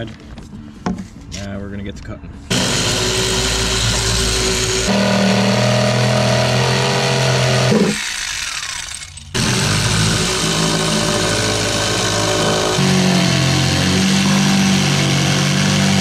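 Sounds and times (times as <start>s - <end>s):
electric jigsaw cutting: 2.5s - 16.0s.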